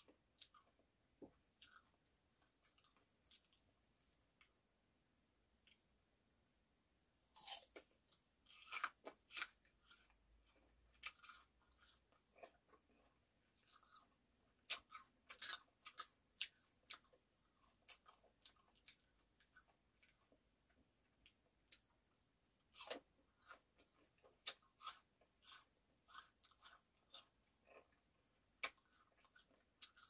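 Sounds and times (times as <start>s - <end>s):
person chewing fruit: 0.0s - 4.6s, 7.2s - 30.0s.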